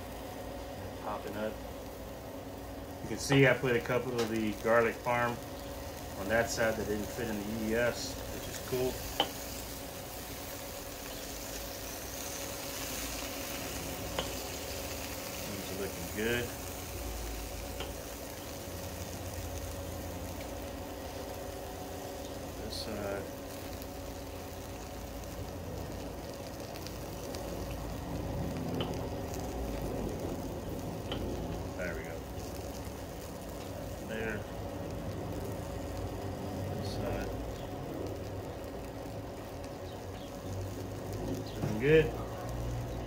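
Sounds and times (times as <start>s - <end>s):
faint steady hum: 0.0s - 43.0s
low steady rumble: 0.0s - 43.0s
meat sizzling on grill: 0.0s - 43.0s.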